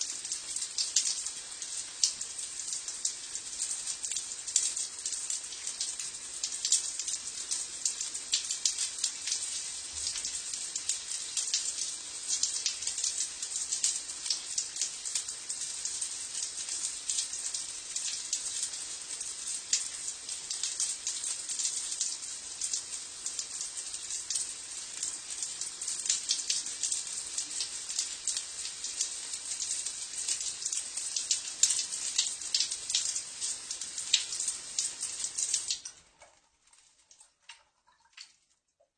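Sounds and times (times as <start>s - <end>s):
shower water on stone floor: 0.0s - 38.9s.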